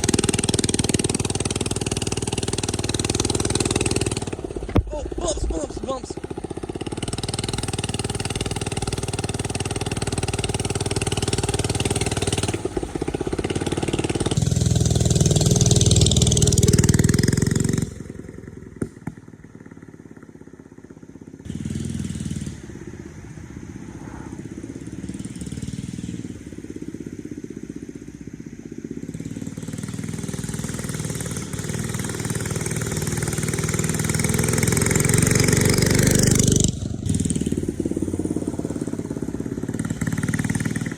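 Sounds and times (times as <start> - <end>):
mini bike engine revving: 0.0 - 40.9.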